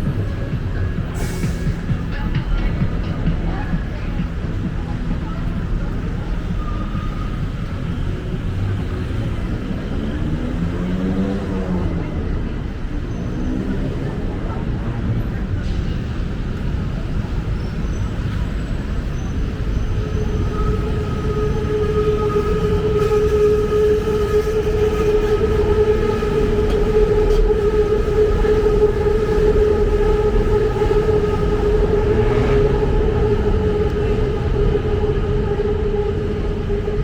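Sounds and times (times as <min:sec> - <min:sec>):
metro train rumbling past: 0:00.0 - 0:37.0.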